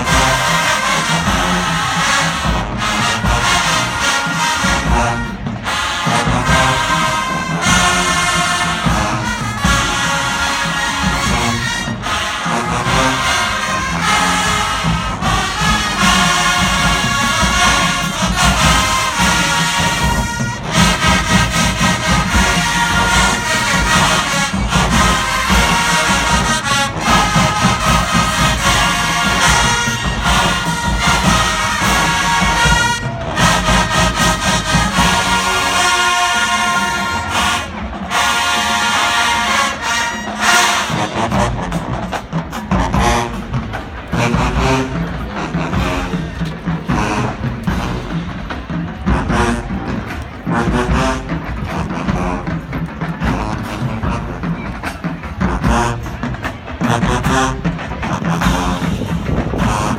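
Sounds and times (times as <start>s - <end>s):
marching band playing: 0.0s - 59.9s.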